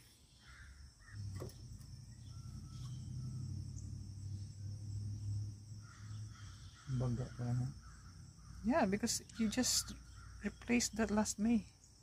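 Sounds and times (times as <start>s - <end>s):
crickets chirring: 0.0s - 12.0s
low steady hum: 1.1s - 12.0s.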